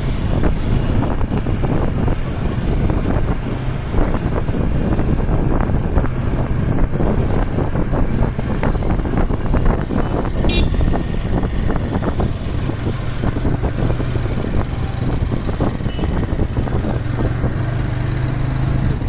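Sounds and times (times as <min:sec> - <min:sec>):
motorcycle engine running: 0:00.0 - 0:19.0
road noise: 0:00.0 - 0:19.0
wind buffeting microphone: 0:00.0 - 0:19.0.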